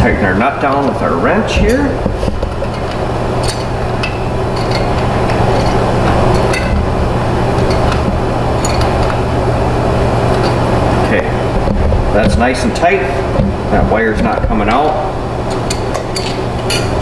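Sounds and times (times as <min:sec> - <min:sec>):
loud mechanical hum: 0:00.0 - 0:17.0.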